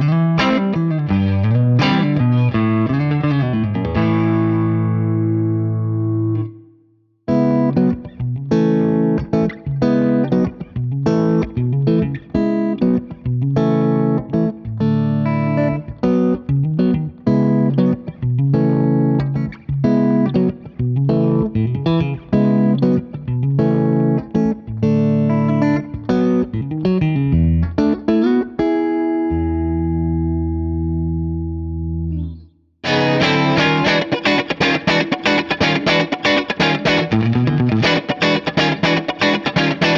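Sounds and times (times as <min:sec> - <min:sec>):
clean electric guitar chords: 0:00.0 - 0:39.9.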